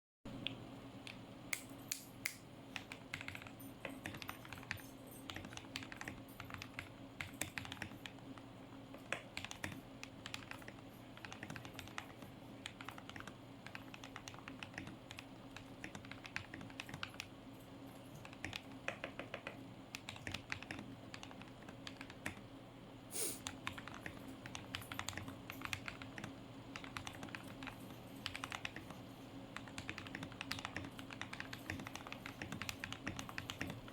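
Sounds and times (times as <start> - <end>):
muted mechanical keyboard typing: 2.7 - 17.4, 18.0 - 22.5, 23.4 - 33.9.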